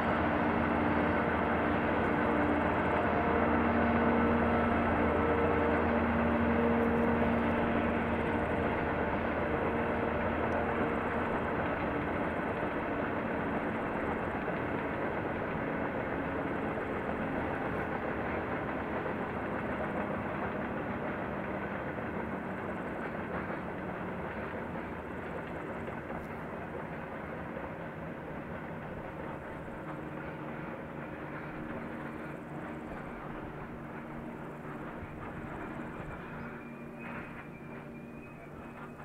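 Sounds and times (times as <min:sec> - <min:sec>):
train wheels on rails: 0:00.0 - 0:39.0.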